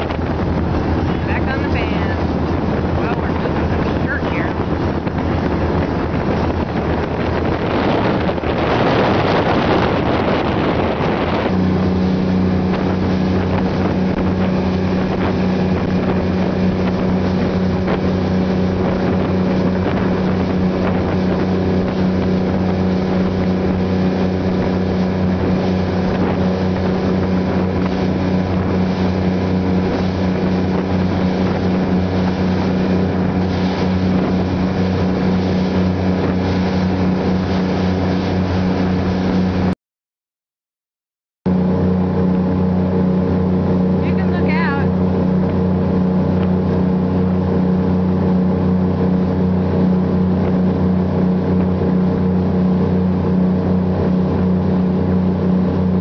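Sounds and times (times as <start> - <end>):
speedboat engines droning: 0.0 - 39.7, 41.5 - 56.0
wind buffeting microphone: 0.0 - 39.7, 41.5 - 56.0
rushing wind and water: 0.0 - 39.8, 41.5 - 56.0.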